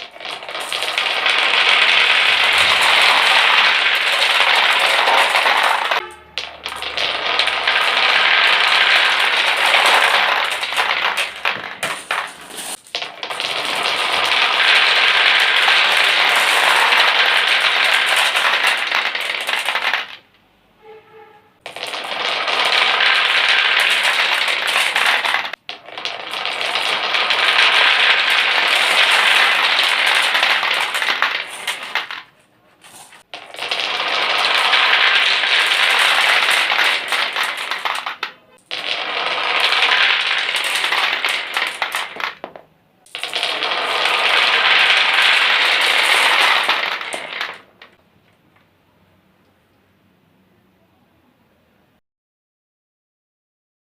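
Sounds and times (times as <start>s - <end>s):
marbles clattering down a marble run: 0.0s - 20.3s, 21.6s - 48.0s.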